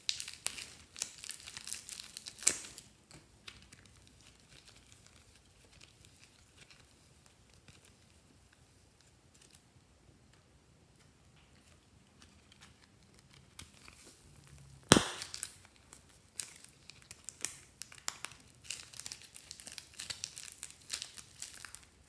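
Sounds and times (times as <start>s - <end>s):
plastic crinkling and crackling: 0.0s - 9.6s, 11.4s - 22.0s.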